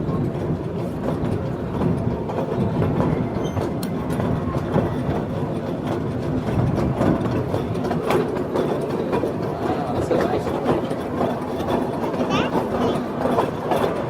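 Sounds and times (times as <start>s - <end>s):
small ride train rumbling: 0.0s - 14.0s
wheels clattering over rails: 0.0s - 14.0s.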